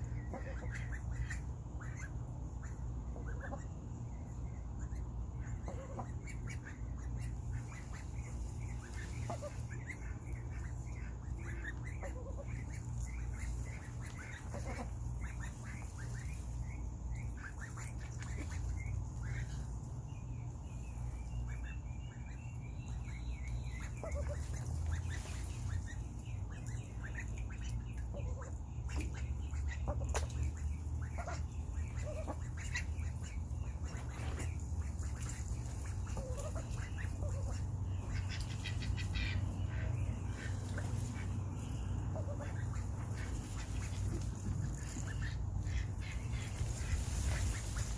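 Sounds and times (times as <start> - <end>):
ducklings quacking and peeping: 0.0 - 47.9
steady low hum: 0.0 - 47.9.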